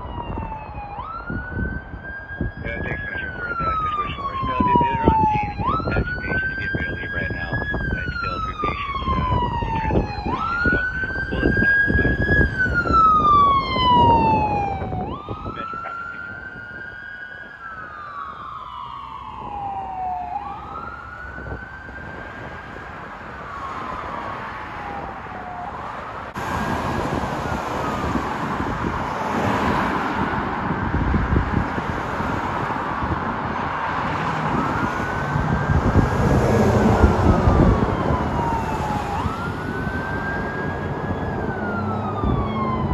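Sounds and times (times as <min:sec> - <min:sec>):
ambulance siren wailing: 0:00.0 - 0:42.9
vehicle engine and road noise: 0:00.0 - 0:42.9.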